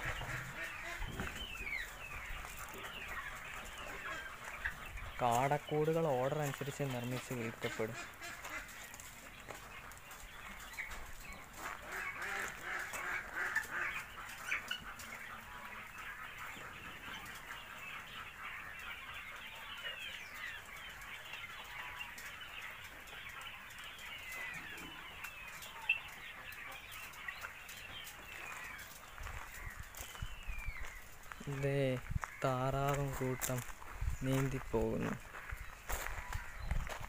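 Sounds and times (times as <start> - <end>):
quails cheeping and chirping: 0.0 - 37.0.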